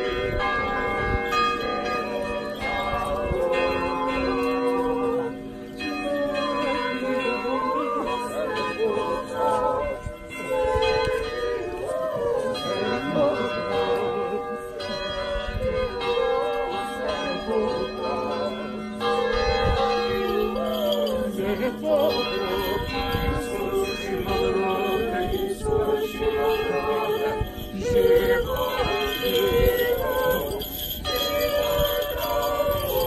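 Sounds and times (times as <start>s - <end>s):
church bells ringing: 0.0s - 33.0s
group of voices singing: 0.0s - 33.0s.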